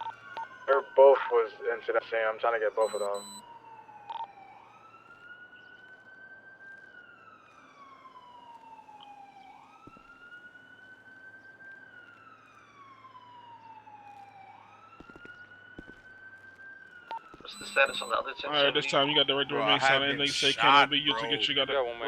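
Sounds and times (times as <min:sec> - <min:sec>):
faint police siren wailing: 0:00.0 - 0:22.0.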